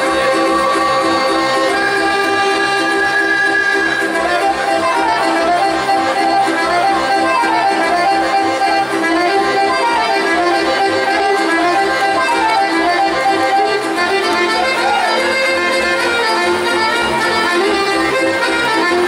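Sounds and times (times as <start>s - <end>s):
accordion: 0.0s - 19.0s
fiddle: 0.0s - 19.0s
folk dance music: 0.0s - 19.0s.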